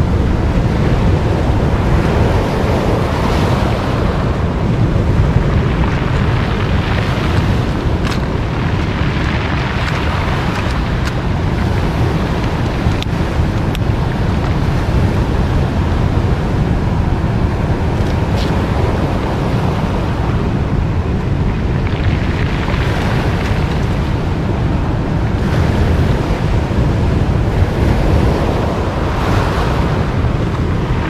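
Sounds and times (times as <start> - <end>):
surf on pebble beach: 0.0 - 31.0
wind buffeting microphone: 0.0 - 31.0.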